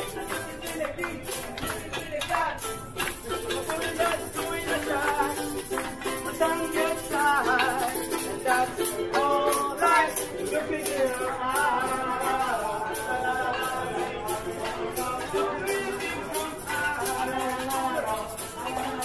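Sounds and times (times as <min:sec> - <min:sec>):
maracas shaking: 0:00.0 - 0:19.0
people singing along: 0:00.0 - 0:19.0
ukulele strumming: 0:00.0 - 0:19.0.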